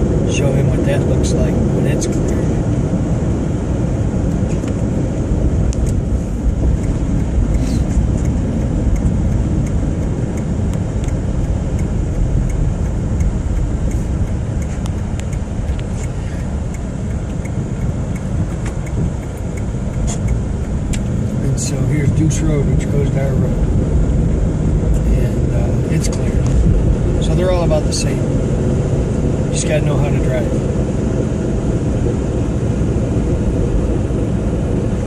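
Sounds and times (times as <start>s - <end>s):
car engine: 0.0s - 35.0s
tyres rumbling on road: 0.0s - 35.0s.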